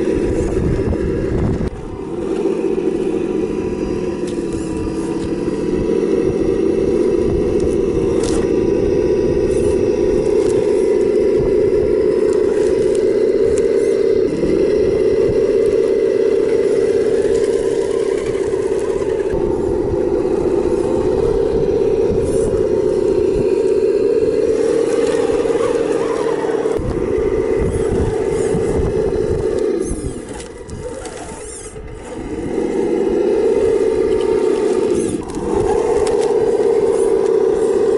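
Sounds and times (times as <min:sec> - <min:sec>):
toy car motor whine: 0:00.0 - 0:37.9
wind rumble on microphone: 0:00.0 - 0:37.9.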